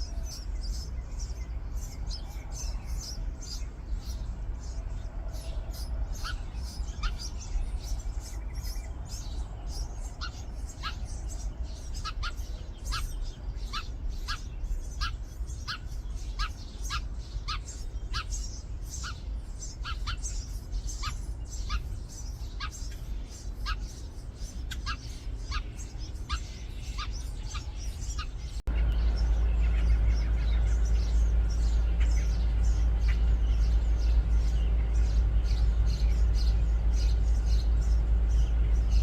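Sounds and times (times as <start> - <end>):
nestlings chirping: 0.0 - 39.0
steady low rumble: 0.0 - 39.0.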